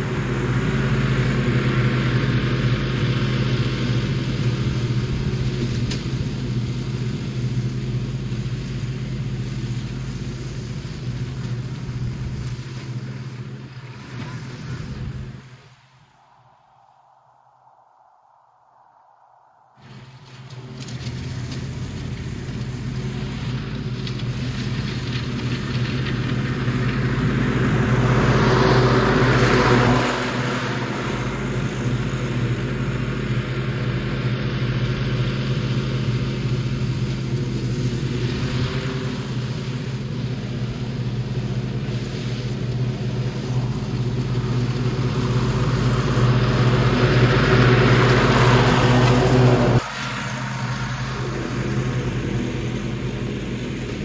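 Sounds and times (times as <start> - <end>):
riding mower engine running: 0.0 - 17.1, 19.8 - 54.0.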